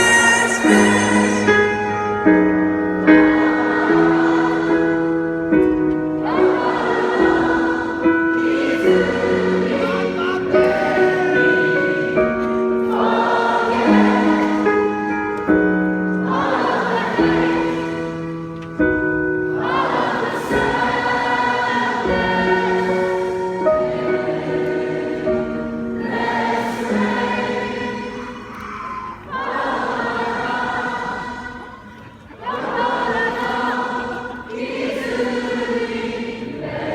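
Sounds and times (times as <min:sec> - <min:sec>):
choir singing: 0:00.0 - 0:36.9
music: 0:00.0 - 0:36.9.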